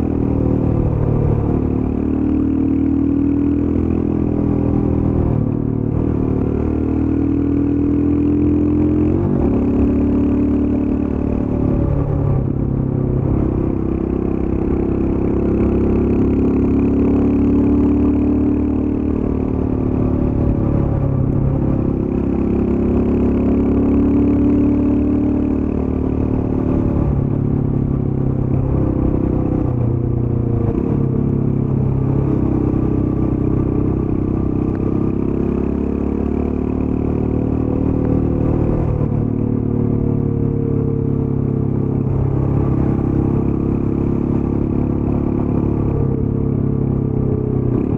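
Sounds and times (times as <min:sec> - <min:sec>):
motorcycle engine: 0:00.0 - 0:47.9.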